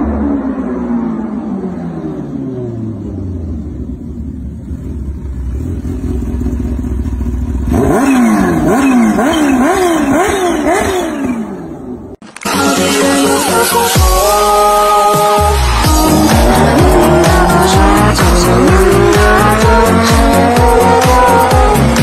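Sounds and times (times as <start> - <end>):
motorcycle engine revving: 0.0 - 12.2, 15.5 - 22.0
motorcycle engine rumbling: 0.0 - 12.2, 14.0 - 22.0.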